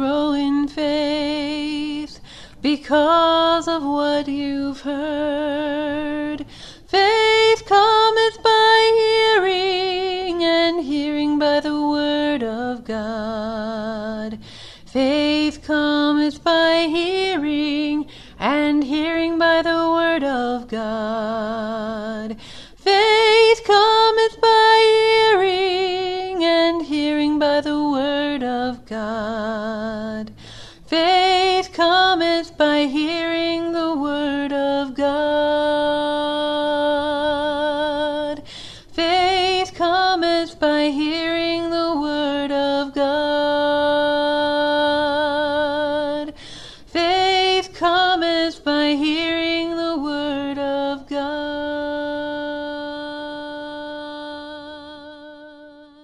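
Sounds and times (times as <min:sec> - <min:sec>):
woman singing wordless melody: 0:00.0 - 0:56.0.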